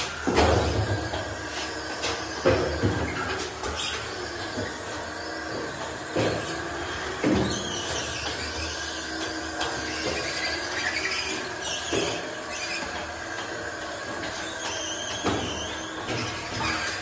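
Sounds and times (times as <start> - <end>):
stair-climbing machine motor: 0.0 - 17.0.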